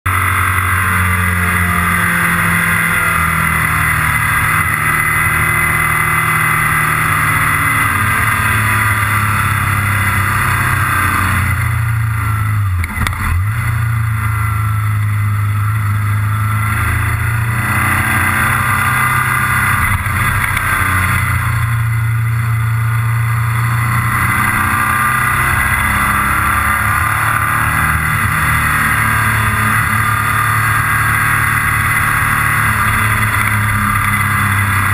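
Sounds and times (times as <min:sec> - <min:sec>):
motorcycle engine while riding: 0:00.0 - 0:34.9.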